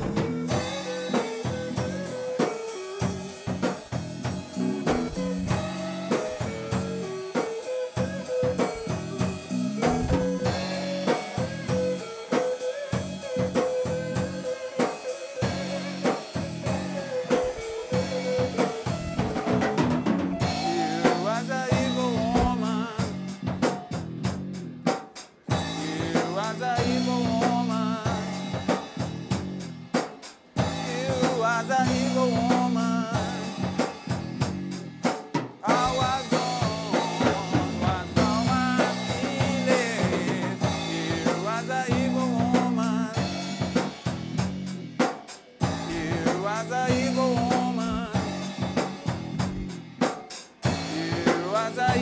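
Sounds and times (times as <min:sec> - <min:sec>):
bass line: 0:00.0 - 0:02.4, 0:03.0 - 0:07.4, 0:08.0 - 0:12.1, 0:12.9 - 0:14.6, 0:15.4 - 0:24.9, 0:25.5 - 0:30.0, 0:30.6 - 0:35.1, 0:35.7 - 0:45.0, 0:45.6 - 0:50.0, 0:50.6 - 0:52.0
blues-rock band playing: 0:00.0 - 0:52.0
drum kit beat: 0:00.0 - 0:52.0
lead melody with bent notes: 0:00.0 - 0:52.0.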